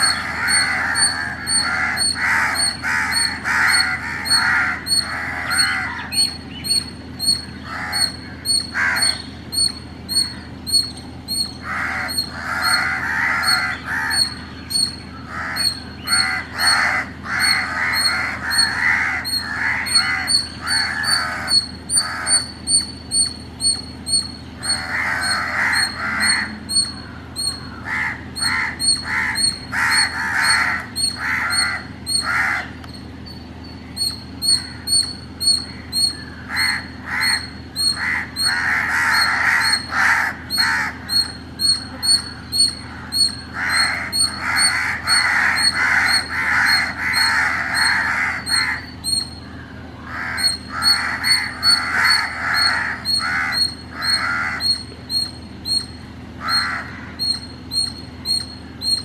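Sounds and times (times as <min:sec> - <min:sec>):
squirrel chirping: 0:00.0 - 0:59.0.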